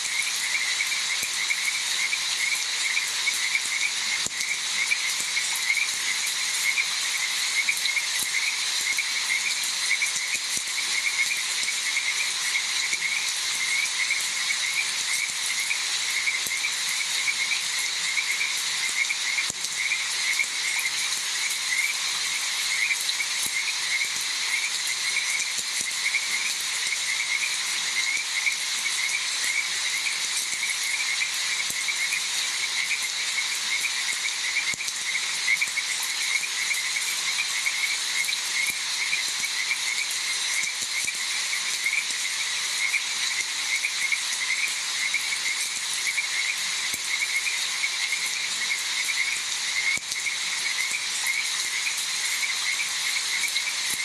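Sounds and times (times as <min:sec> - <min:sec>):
frogs calling: 0:00.0 - 0:54.0
rain hiss: 0:00.0 - 0:54.0.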